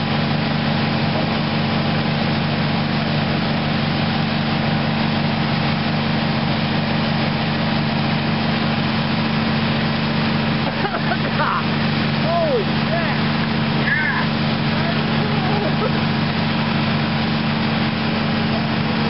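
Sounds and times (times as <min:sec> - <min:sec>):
fire engine engine droning: 0:00.0 - 0:19.0.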